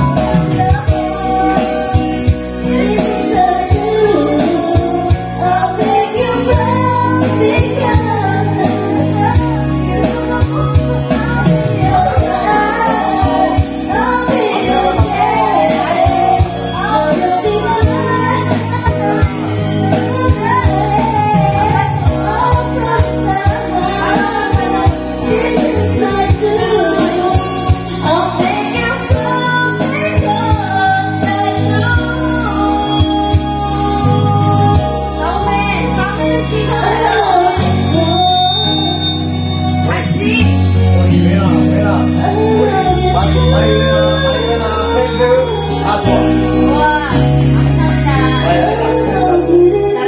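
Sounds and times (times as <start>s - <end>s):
backing track with bass line: 0.0s - 50.0s
person singing into microphone: 0.0s - 50.0s.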